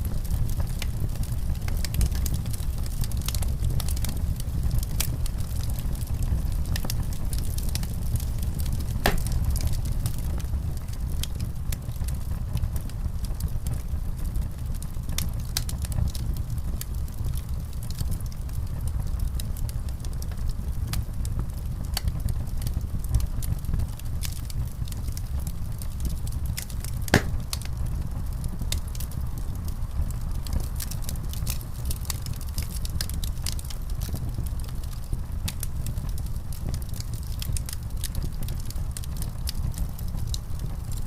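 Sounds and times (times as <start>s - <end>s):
low fire rumble: 0.0s - 41.0s
wood fire crackling and popping: 0.0s - 41.0s.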